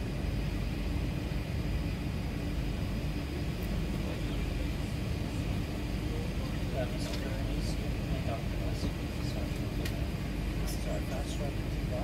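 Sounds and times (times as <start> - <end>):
faint steady hum: 0.0 - 12.0
low cabin rumble: 0.0 - 12.0.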